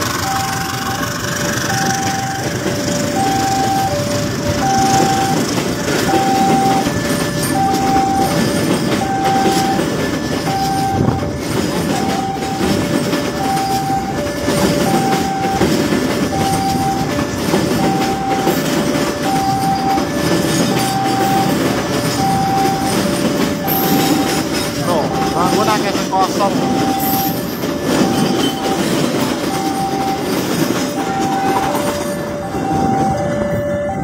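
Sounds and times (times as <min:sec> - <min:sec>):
train coaches rumbling past: 0:00.0 - 0:34.0
two-tone electronic warning signal: 0:00.0 - 0:34.0
wheels clattering over rails: 0:00.0 - 0:34.0.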